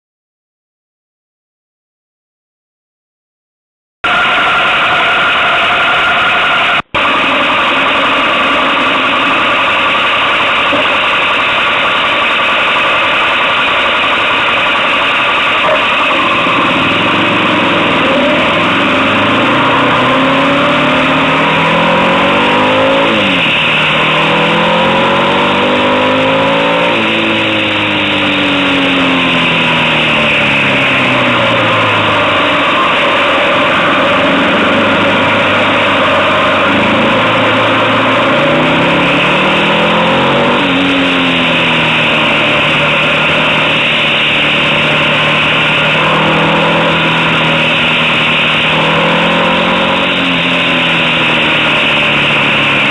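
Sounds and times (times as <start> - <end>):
motorcycle engine running: 4.1 - 52.9.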